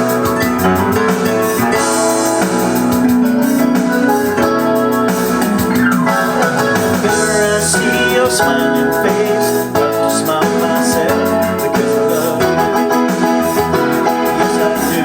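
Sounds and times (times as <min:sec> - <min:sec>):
keyboard backing track with drums: 0:00.0 - 0:15.0.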